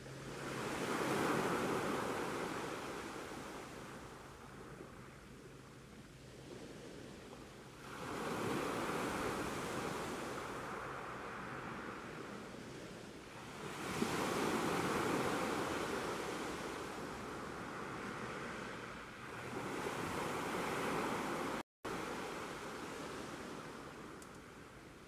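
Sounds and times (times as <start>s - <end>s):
sea waves breaking on shore: 0.0s - 25.0s.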